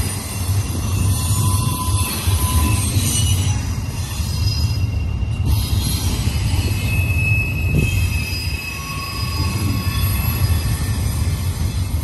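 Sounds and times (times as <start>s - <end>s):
high wheel squeal: 0.0s - 12.0s
train wheels rolling on rails: 0.0s - 12.0s.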